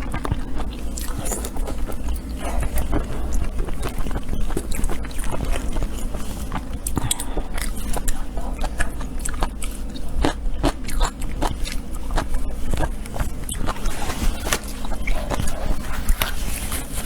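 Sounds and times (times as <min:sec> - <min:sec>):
chewing with crisp crunches: 0:00.0 - 0:17.0.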